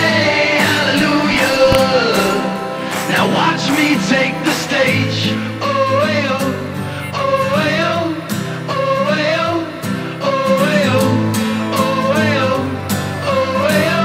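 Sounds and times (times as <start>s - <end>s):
song with sung melody: 0.0s - 14.0s.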